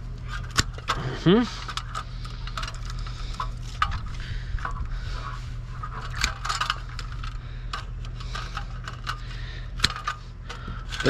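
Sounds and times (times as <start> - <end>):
steady low hum: 0.0 - 11.0
wires scraping in metal box: 0.2 - 11.0.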